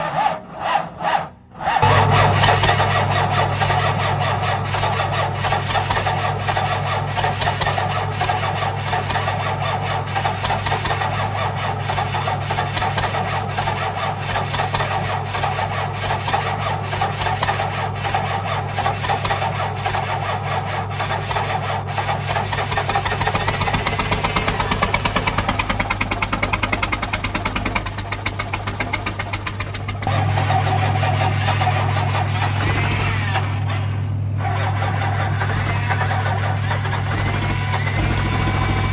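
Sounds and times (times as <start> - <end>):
diesel engine starting and running: 0.0 - 38.9.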